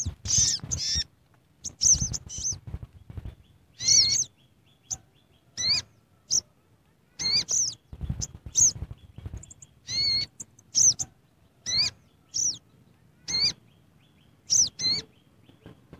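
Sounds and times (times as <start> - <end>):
bird calling: 0.0 - 15.8.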